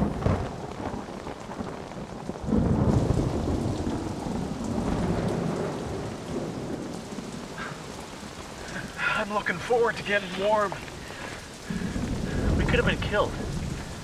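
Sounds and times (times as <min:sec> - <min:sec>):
rolling thunder: 0:00.0 - 0:10.0, 0:10.6 - 0:14.0
heavy rain: 0:00.0 - 0:14.0.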